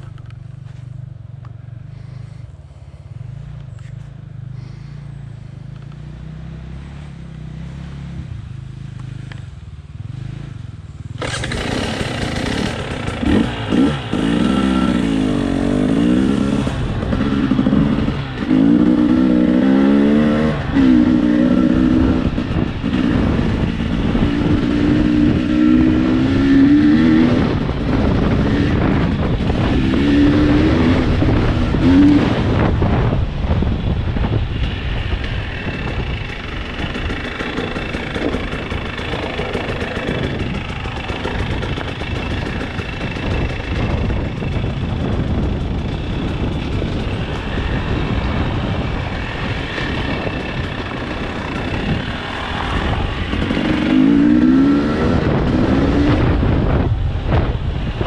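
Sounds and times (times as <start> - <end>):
off-road motorbike engine revving: 0.0 - 58.0.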